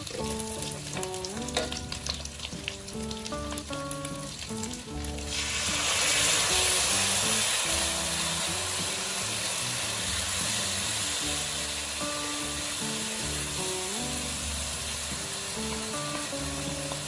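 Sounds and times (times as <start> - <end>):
background music: 0.0 - 17.0
meat sizzling in oil: 0.0 - 17.0.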